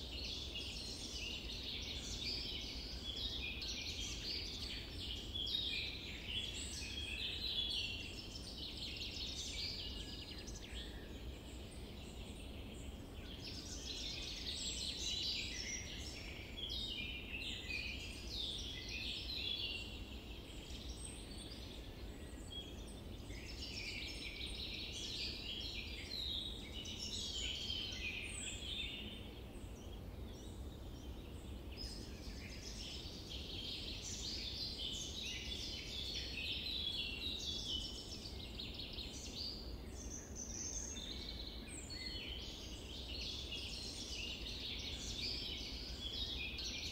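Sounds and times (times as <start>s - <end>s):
chorus of small birds chirping: 0.0s - 46.9s.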